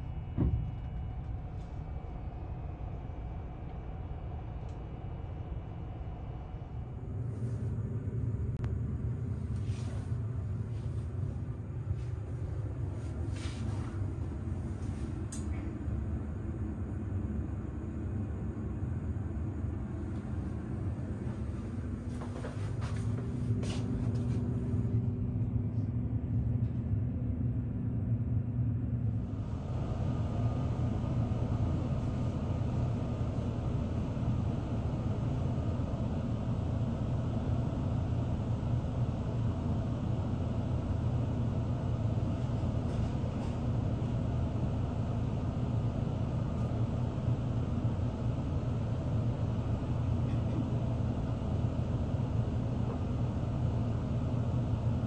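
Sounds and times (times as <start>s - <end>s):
electric train humming: 0.0s - 55.0s.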